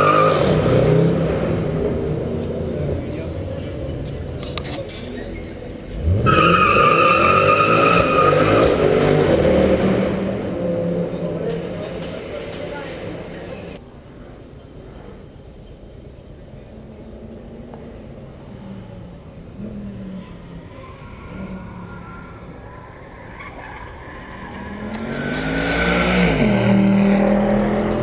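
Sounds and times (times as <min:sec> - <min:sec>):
race car engine at speed: 0:00.0 - 0:13.8, 0:16.7 - 0:28.0.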